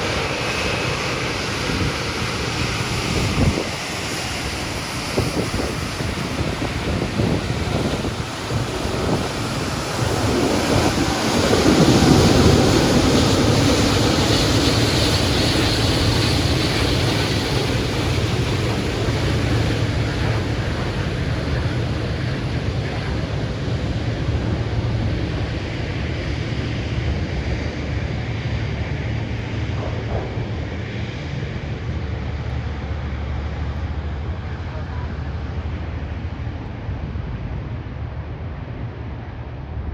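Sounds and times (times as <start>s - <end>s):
jet engines rumbling: 0.0s - 39.9s
wind buffeting microphone: 0.0s - 39.9s.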